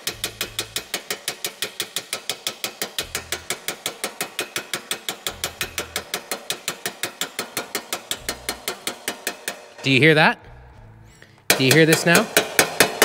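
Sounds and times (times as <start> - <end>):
hammer tapping on metal: 0.0 - 10.2, 11.3 - 13.0.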